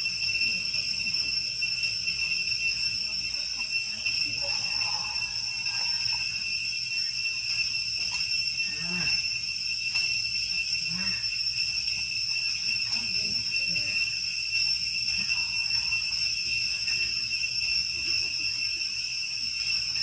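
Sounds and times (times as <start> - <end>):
shrill insect drone: 0.0 - 20.0.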